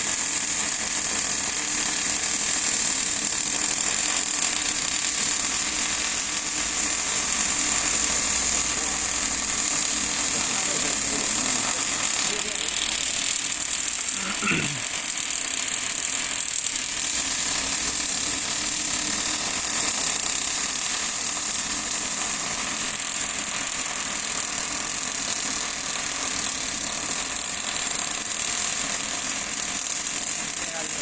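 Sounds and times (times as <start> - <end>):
machine noise with high hiss: 0.0 - 31.0.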